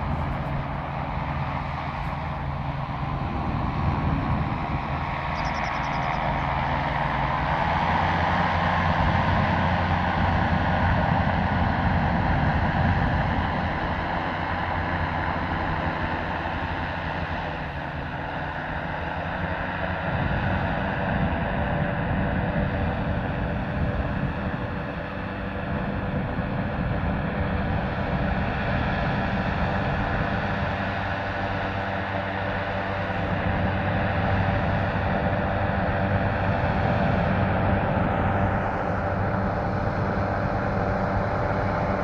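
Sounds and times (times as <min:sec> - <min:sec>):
propeller droning: 0:00.0 - 0:42.0
wind rumbling on microphone: 0:00.0 - 0:42.0.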